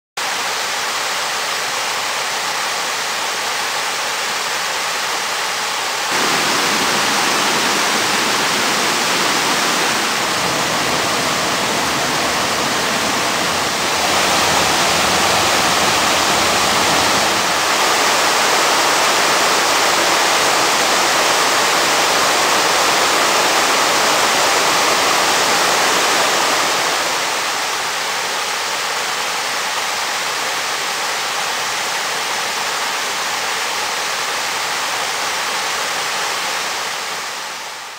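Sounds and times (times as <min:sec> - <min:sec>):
floodwater rushing over rocks: 0:02.6 - 0:37.4.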